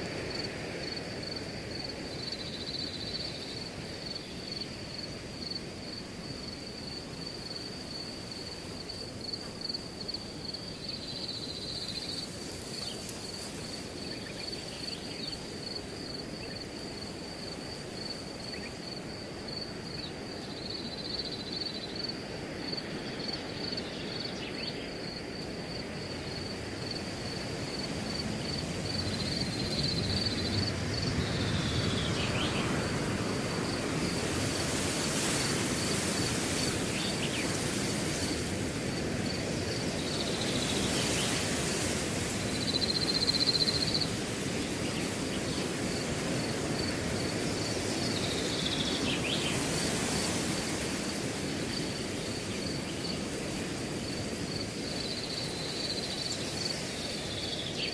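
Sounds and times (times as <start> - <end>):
cricket chirping: 0.0 - 57.9
wind gusting through grass: 0.0 - 57.9.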